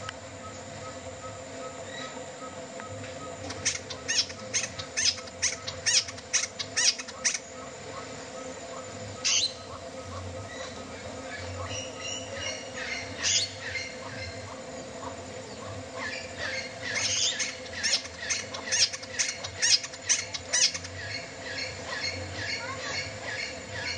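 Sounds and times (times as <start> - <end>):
wren calling: 0.0 - 23.9.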